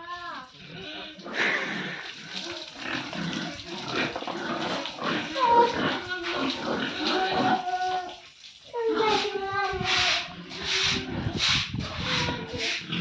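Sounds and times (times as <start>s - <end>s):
pigs grunting and squealing: 0.4s - 13.0s.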